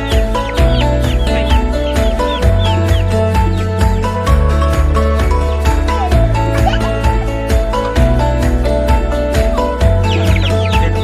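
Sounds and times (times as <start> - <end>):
chicks peeping: 0.0 - 8.0, 9.4 - 11.0
background music with beat: 0.0 - 11.0.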